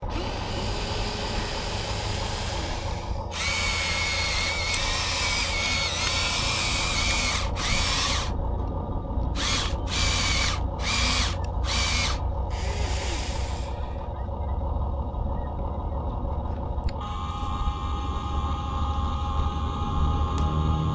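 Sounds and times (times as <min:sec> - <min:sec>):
small electric motors whirring: 0:00.0 - 0:08.4, 0:09.3 - 0:14.0, 0:17.0 - 0:20.9
steady low hum: 0:00.0 - 0:20.9.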